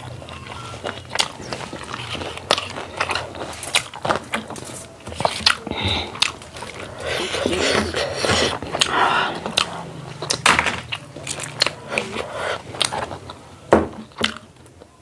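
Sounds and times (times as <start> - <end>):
close chewing with mouth clicks: 0.0 - 15.0.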